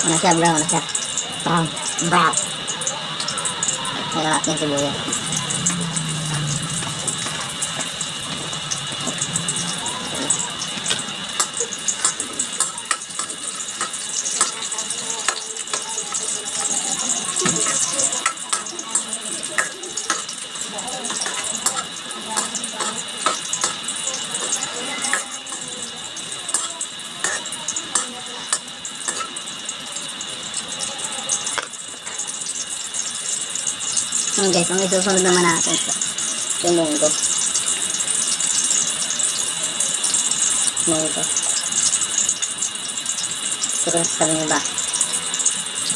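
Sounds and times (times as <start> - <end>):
sizzling in hot oil: 0.0 - 45.9.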